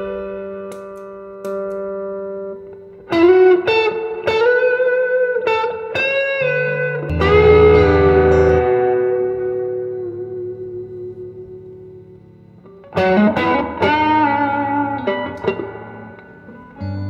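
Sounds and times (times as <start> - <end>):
electric guitar chord ringing: 0.0 - 17.0
electric guitar notes: 0.0 - 17.0.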